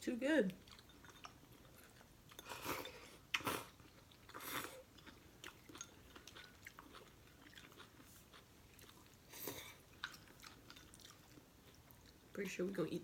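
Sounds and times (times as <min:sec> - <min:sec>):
soft chewing: 0:00.4 - 0:12.8.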